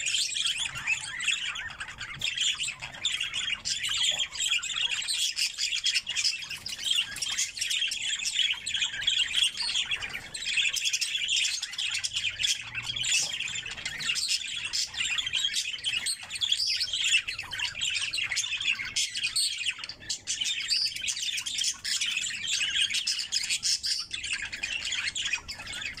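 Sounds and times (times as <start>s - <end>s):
budgerigars chattering and chirping: 0.0s - 26.0s.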